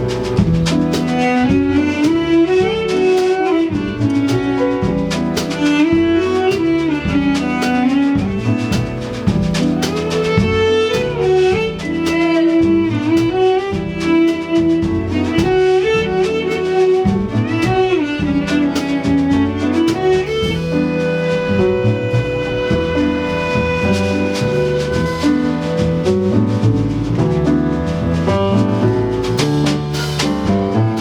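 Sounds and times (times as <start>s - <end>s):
instrumental music with bass: 0.0s - 31.0s
light percussion hits: 0.0s - 31.0s.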